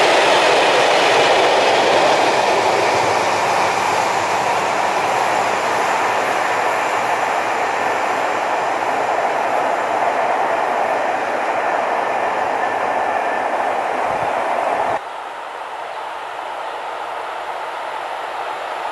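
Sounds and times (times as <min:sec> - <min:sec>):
train wheels on rails: 0:00.0 - 0:18.9.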